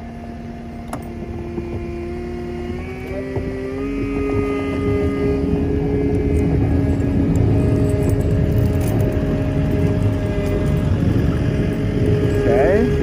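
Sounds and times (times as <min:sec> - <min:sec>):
tires spinning in snow: 0:00.0 - 0:13.0
truck engine revving: 0:00.0 - 0:13.0.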